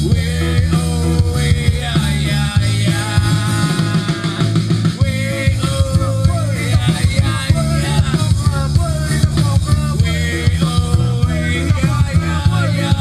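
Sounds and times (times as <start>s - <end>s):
song with drums and heavy bass: 0.0s - 13.0s.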